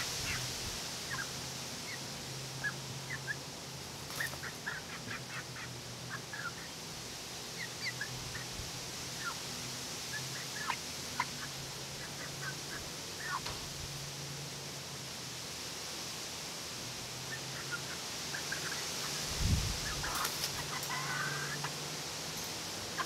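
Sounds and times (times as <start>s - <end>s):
hens chirping and clucking: 0.0s - 15.2s, 17.1s - 23.0s.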